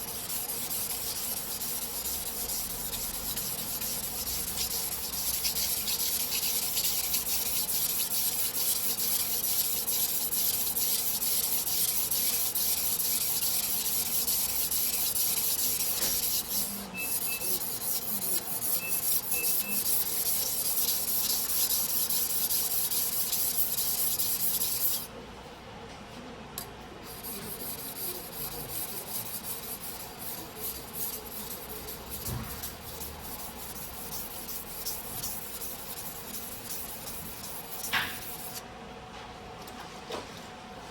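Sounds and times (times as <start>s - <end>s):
knife scraping on whetstone: 0.1s - 25.0s, 27.2s - 38.6s.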